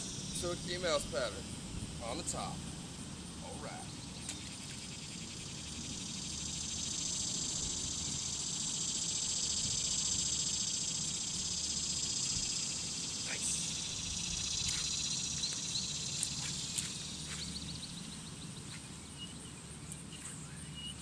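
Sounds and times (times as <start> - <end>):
insects shrilling: 0.0 - 21.0.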